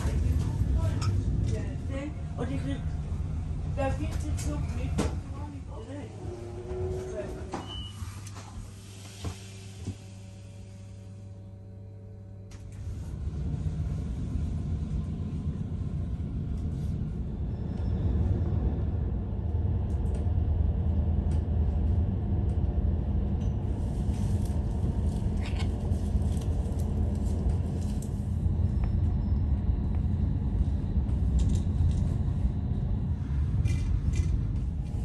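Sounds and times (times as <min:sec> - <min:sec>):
train rumble inside carriage: 0:00.0 - 0:35.0.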